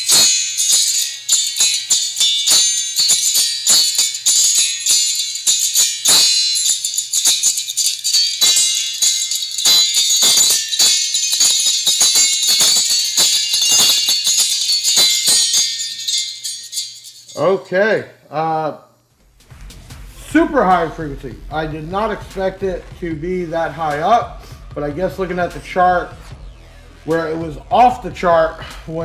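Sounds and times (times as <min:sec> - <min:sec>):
thin high-pitched music from tweeters: 0:00.0 - 0:29.0.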